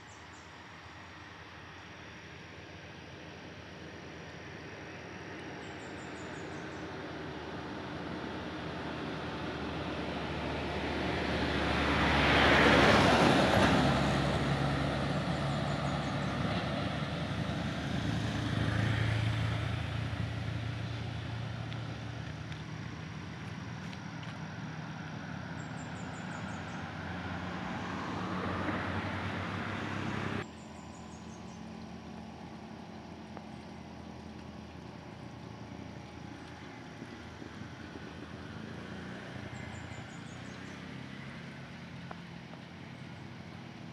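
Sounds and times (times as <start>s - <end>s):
steady traffic background: 0.0s - 43.9s
vehicles passing: 0.0s - 43.9s.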